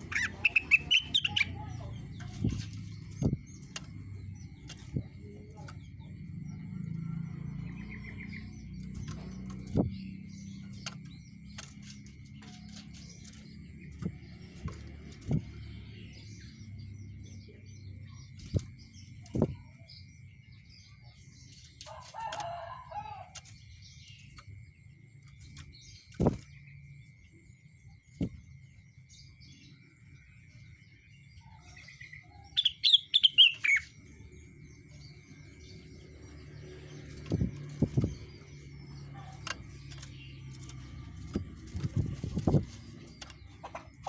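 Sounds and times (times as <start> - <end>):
songbird chirping: 0.0 - 44.0.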